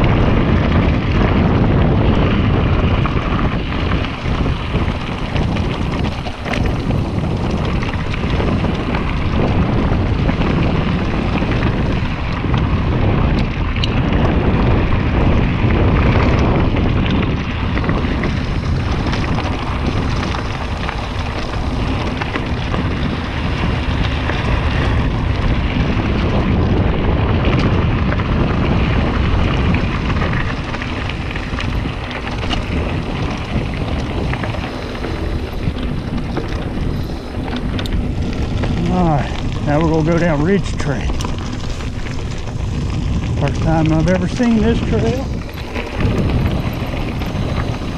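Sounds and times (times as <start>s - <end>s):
bike clicks: 0.0s - 47.9s
bike tyres rumbling over dirt: 0.0s - 47.9s
wind buffeting microphone: 0.0s - 47.9s.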